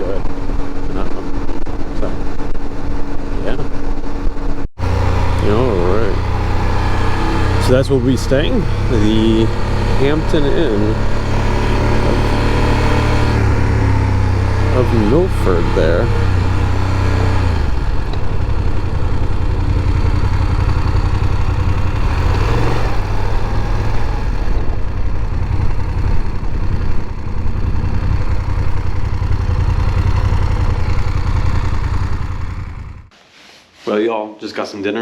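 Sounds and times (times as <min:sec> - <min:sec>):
motorcycle engine running: 0:00.0 - 0:33.1.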